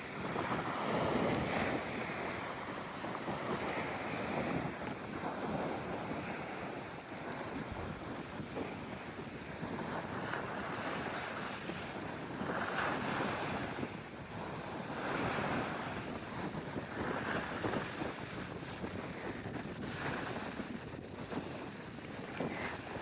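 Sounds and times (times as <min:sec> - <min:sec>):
sea waves washing in: 0:00.0 - 0:23.0
wind buffeting the microphone: 0:00.0 - 0:23.0.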